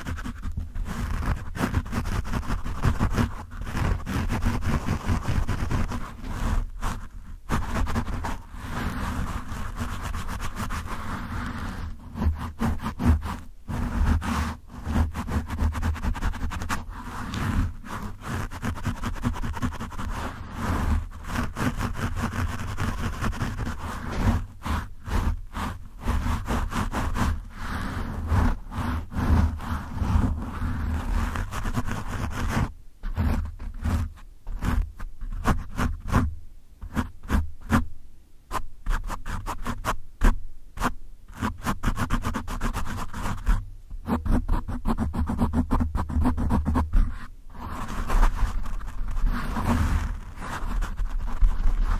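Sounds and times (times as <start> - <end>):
scratching on microphone windscreen: 0.0 - 37.9, 38.5 - 51.9.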